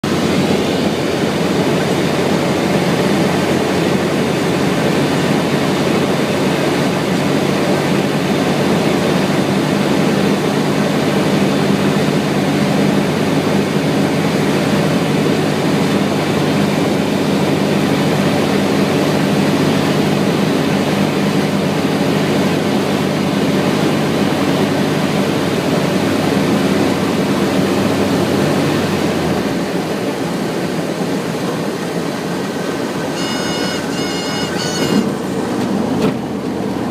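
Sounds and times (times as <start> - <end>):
light aircraft engine droning: 0.0 - 36.9.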